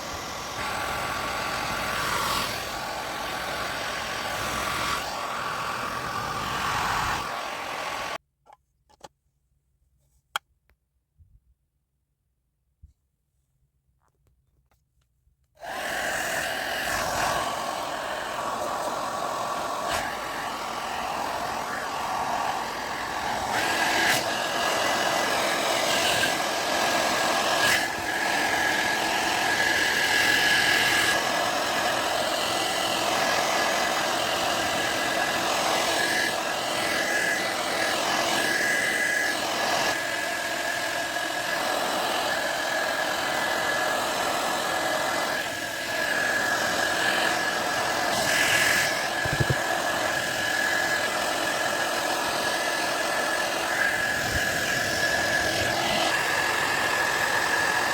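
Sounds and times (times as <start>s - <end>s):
hair dryer blowing air: 0.0s - 8.2s, 15.6s - 57.9s.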